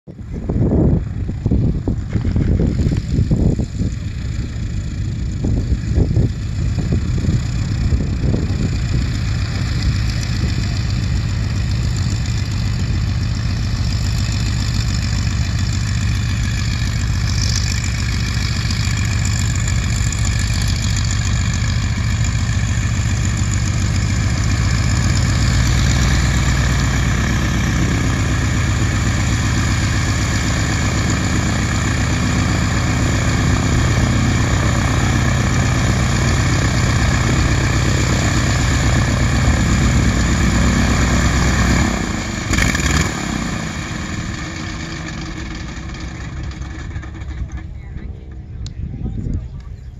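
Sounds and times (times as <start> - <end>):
biplane engine at low power: 0.0 - 49.9.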